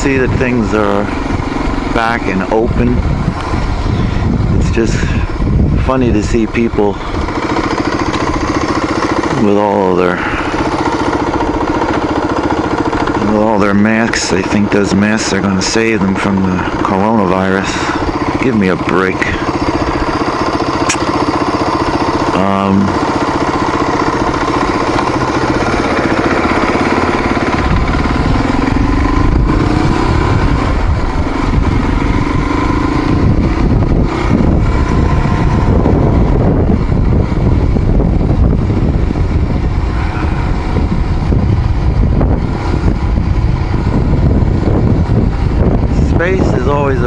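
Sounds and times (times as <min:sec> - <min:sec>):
motorcycle engine riding: 0:00.0 - 0:47.0.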